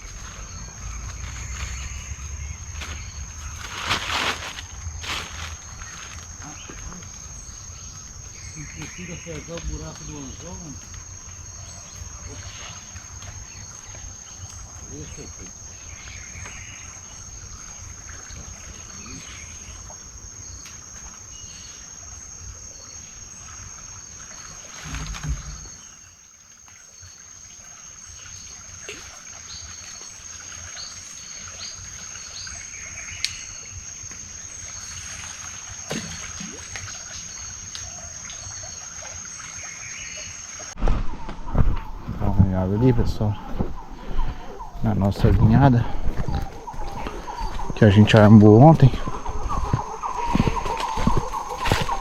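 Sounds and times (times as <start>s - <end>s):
crickets trilling: 0.0s - 52.0s.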